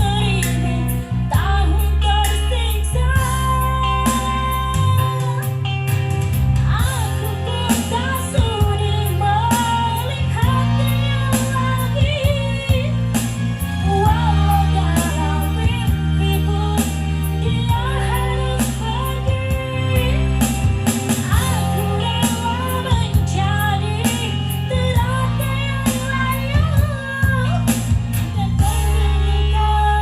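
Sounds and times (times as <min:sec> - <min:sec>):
backing track with bass and beat: 0:00.0 - 0:30.0
woman singing: 0:00.0 - 0:30.0.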